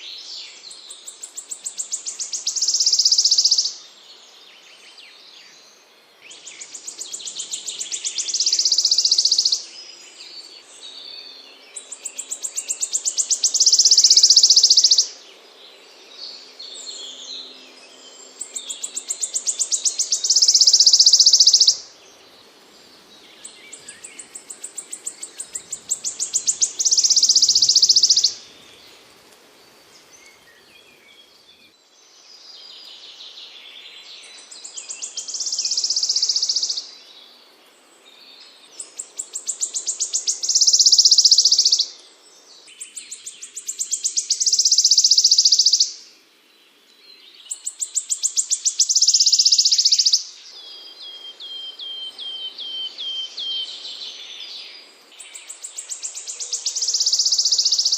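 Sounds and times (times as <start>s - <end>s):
songbird singing buzzy trill: 0.0s - 57.9s.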